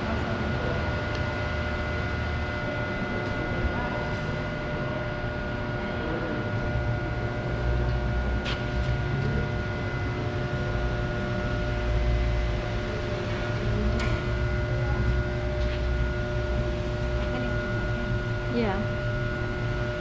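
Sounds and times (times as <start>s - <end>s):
machine rumble and hum: 0.0s - 20.0s.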